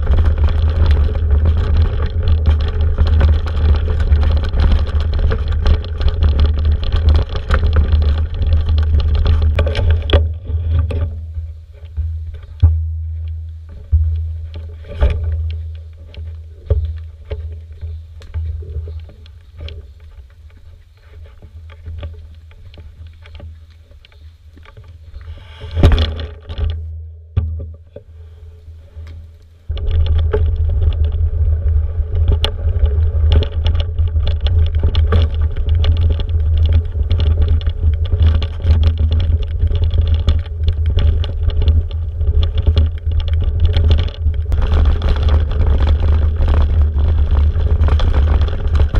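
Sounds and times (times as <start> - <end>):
wind on microphone: 0.0 - 26.9, 29.7 - 48.9
tyres rumbling on dirt: 0.0 - 27.9, 28.8 - 48.9
bike knocking and rattling: 0.0 - 48.9.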